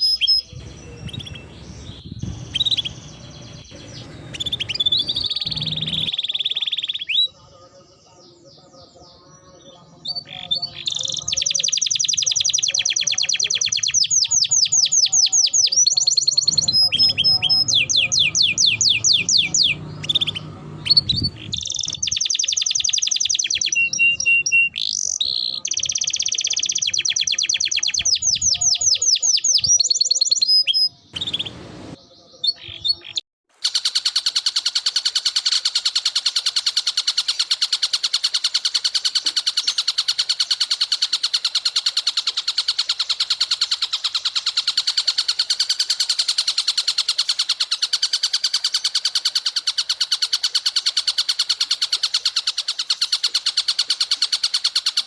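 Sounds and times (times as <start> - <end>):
songbird trills and chattering: 0.0 - 55.0.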